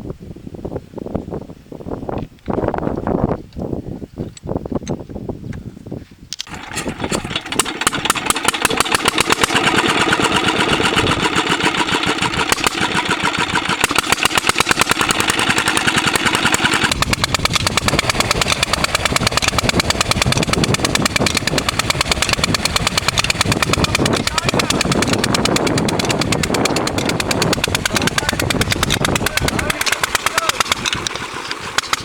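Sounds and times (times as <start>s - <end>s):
old engine starting and running: 6.3s - 32.0s.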